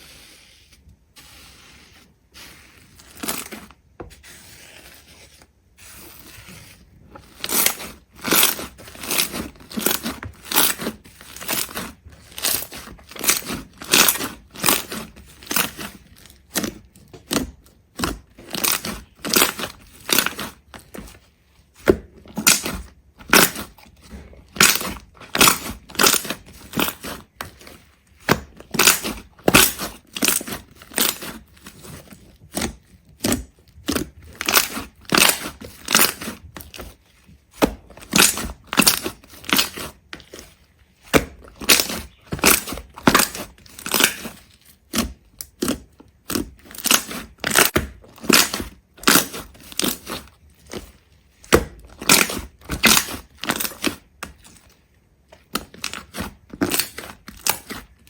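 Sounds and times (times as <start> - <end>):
brittle crunches: 2.8 - 3.8, 4.6 - 58.0.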